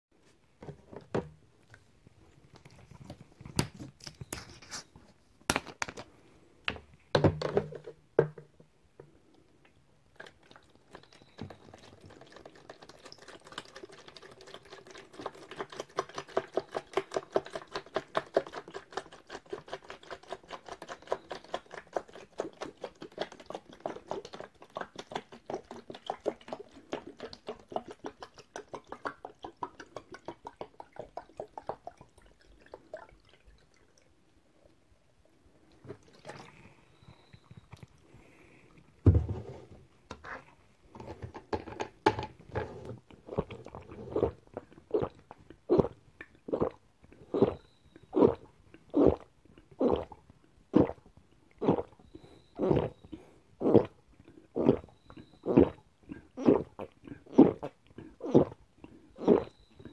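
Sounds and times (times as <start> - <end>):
juice glugging into a jug: 9.3 - 39.4, 40.2 - 59.9.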